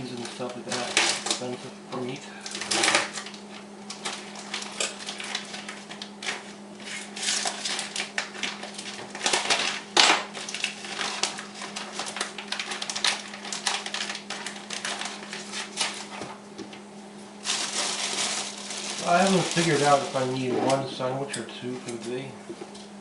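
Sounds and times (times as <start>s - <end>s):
food packaging rustling: 0.0s - 1.6s, 2.5s - 20.9s
steady low hum: 0.0s - 23.0s.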